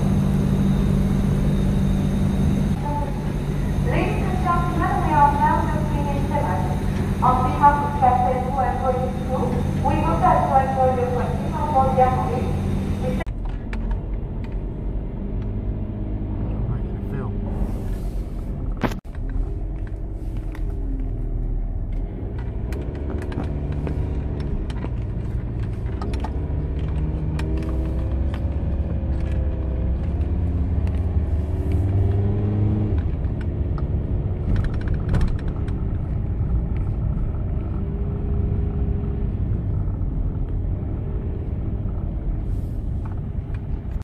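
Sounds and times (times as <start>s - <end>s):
van engine and road rumble: 0.0s - 44.0s.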